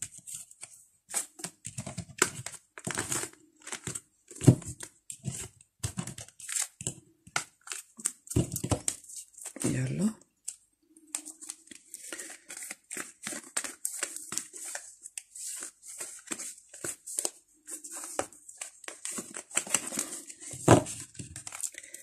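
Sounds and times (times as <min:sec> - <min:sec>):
cards rustling and snapping: 0:00.1 - 0:09.6, 0:10.4 - 0:22.0.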